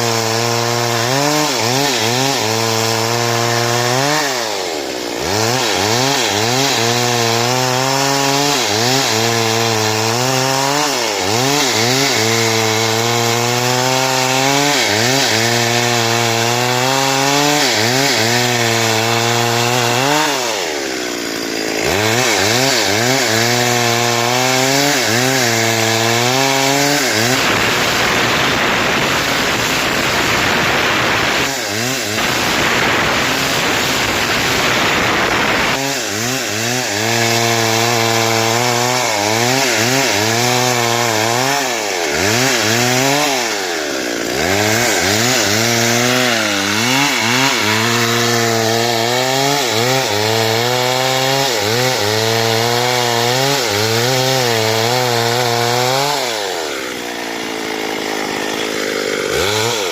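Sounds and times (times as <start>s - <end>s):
chainsaw cutting wood: 0.0s - 59.9s
rough sawing noise: 0.0s - 59.9s.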